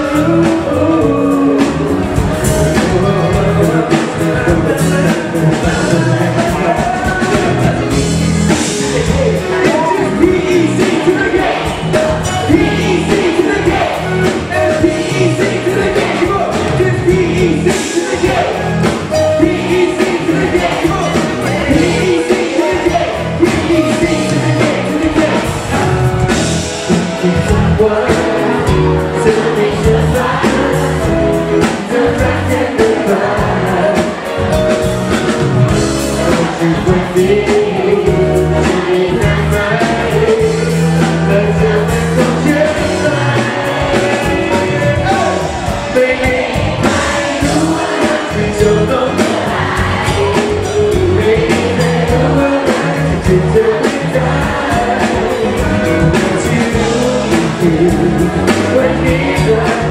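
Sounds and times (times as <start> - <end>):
live band music: 0.0 - 59.9
man singing: 0.0 - 59.9.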